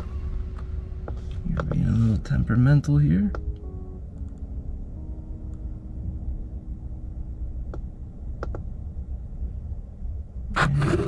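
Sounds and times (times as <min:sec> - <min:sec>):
low hum in vehicle cab: 0:00.0 - 0:11.0.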